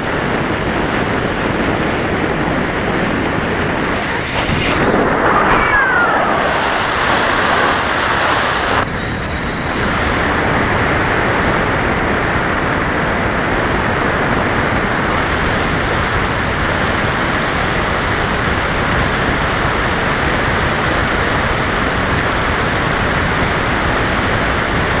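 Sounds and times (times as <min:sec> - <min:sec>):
model plane propeller airflow rush: 0:00.0 - 0:24.9.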